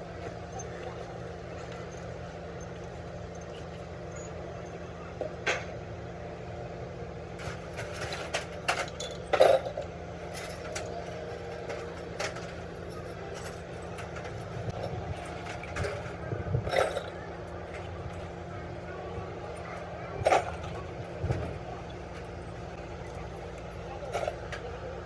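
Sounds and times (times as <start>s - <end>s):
steady low hum: 0.0s - 25.0s
clinks of hand tools and metal: 0.2s - 5.8s, 7.4s - 18.9s, 19.5s - 24.9s.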